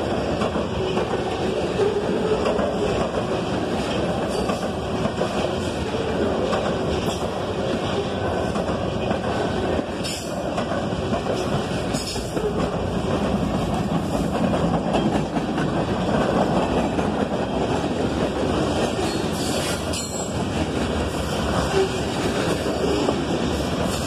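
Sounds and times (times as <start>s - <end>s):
freight train wheels rumbling on rails: 0.0s - 24.0s.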